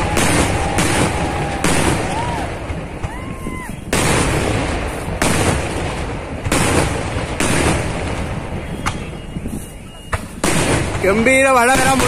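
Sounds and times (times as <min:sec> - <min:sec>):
fireworks explosions: 0:00.0 - 0:12.0.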